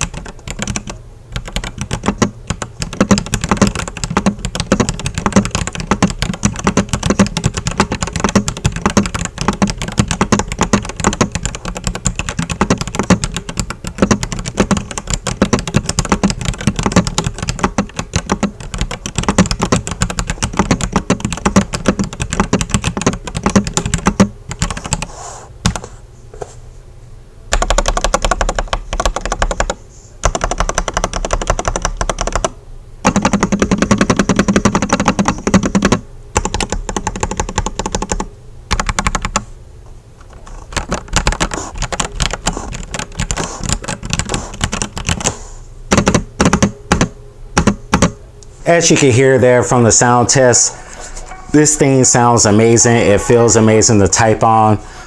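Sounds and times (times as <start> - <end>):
fast mechanical keyboard typing: 0.0 - 25.9, 27.5 - 39.5, 40.4 - 48.2.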